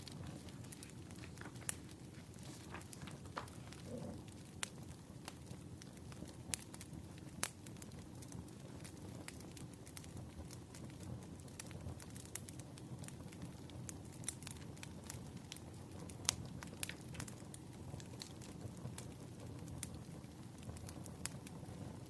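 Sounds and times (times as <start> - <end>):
firewood popping and snapping: 0.0 - 22.0
low rumble of flames: 0.0 - 22.0.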